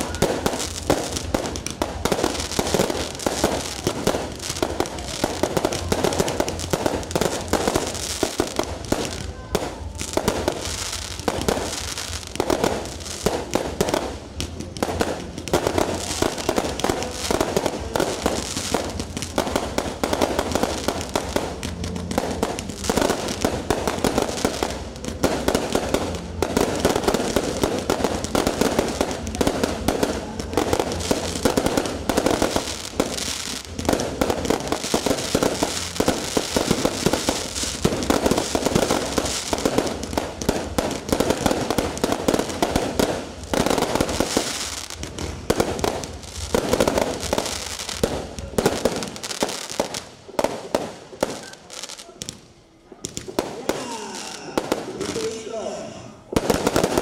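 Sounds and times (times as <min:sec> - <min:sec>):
fireworks popping and banging: 0:00.0 - 0:57.0.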